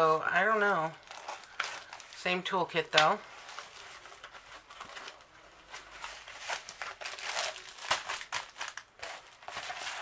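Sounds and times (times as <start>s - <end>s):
paper and plastic crinkling: 0.4s - 10.0s.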